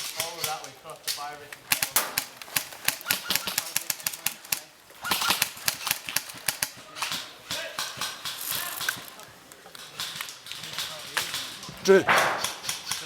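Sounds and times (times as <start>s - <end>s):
airsoft guns firing: 0.0s - 13.0s.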